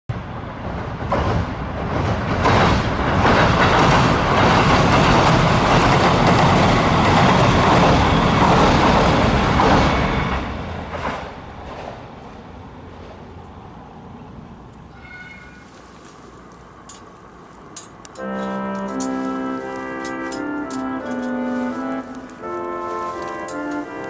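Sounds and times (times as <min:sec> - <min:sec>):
diesel train rumbling past: 0:00.1 - 0:24.0
wheels clicking over rail joints: 0:00.7 - 0:12.2, 0:14.6 - 0:24.0.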